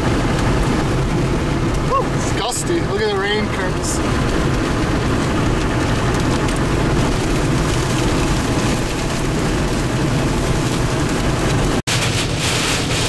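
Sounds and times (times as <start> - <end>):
rain and wind against car: 0.0 - 13.0
road noise: 0.0 - 13.0.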